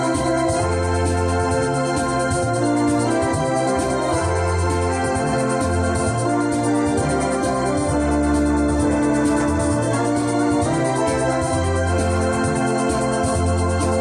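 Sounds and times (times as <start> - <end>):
electronic organ playing: 0.0 - 14.0.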